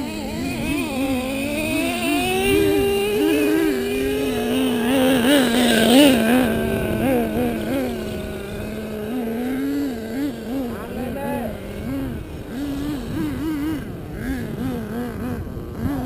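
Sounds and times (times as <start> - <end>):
engine throttle blips: 0.0 - 16.0
small two-stroke engines running: 0.0 - 16.0.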